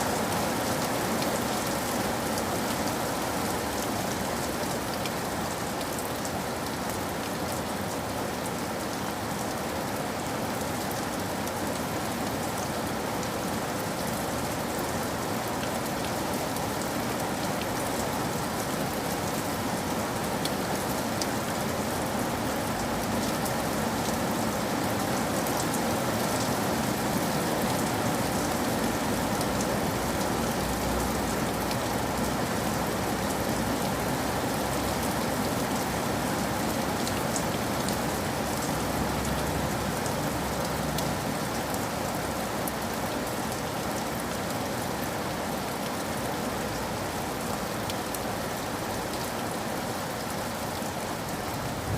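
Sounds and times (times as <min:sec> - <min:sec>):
rain falling on a roof: 0:00.0 - 0:51.9.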